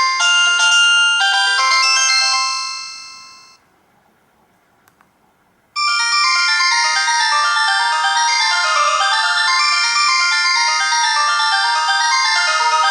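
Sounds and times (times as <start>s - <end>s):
chiming ringtone melody: 0.0s - 3.6s, 5.8s - 12.9s.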